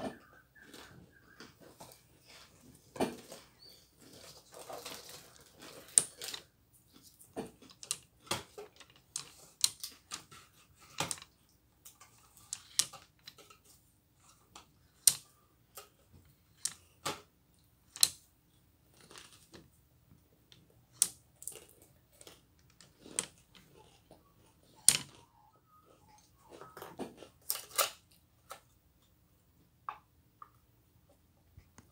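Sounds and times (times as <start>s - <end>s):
abacus beads clacking: 0.0s - 17.2s, 17.8s - 18.3s, 20.4s - 28.6s.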